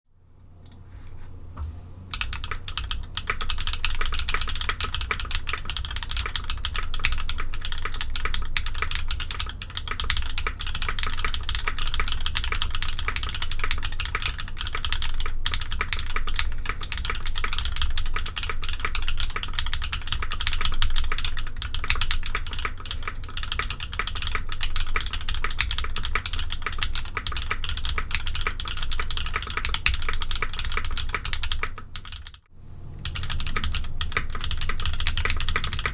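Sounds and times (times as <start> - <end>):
fast typing on mechanical keyboard: 2.1 - 35.9.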